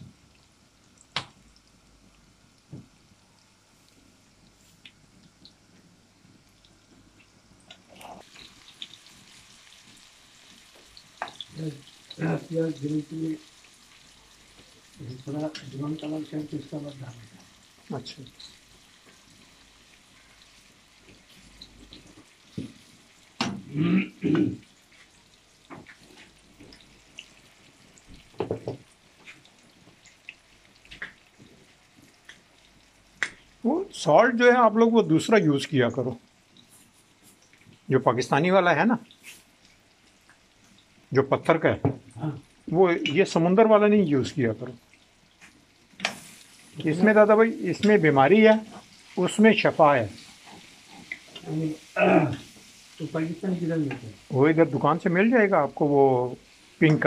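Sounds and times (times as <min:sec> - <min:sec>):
food sizzling in oil: 0:02.4 - 0:57.0.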